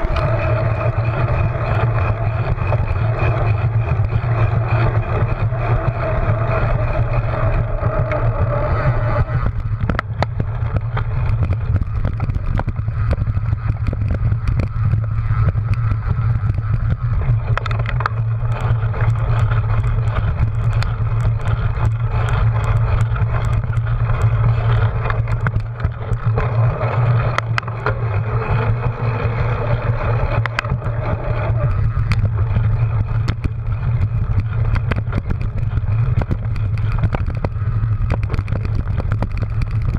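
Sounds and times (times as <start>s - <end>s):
bike knocking and rattling: 0.0s - 39.9s
bike tyres rolling: 0.0s - 39.9s
low drone: 0.0s - 39.9s
wind rumble: 0.0s - 39.9s.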